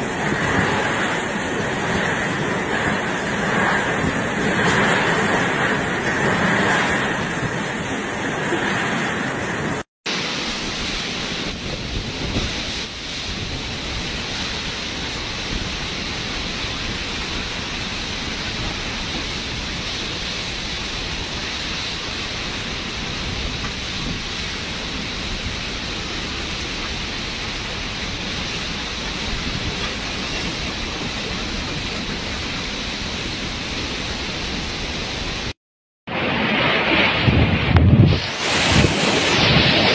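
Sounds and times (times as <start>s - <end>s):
heavy rain: 0.0s - 39.9s
strong wind: 0.0s - 39.9s.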